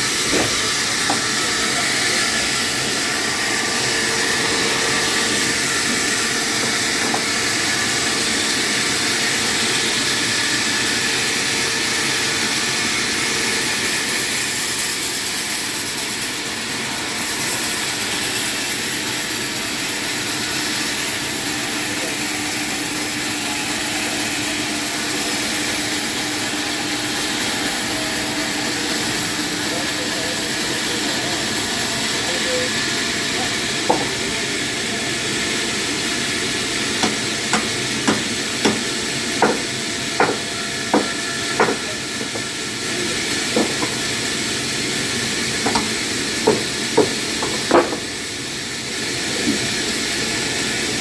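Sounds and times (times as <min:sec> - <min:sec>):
power saw whirring: 0:00.0 - 0:51.0.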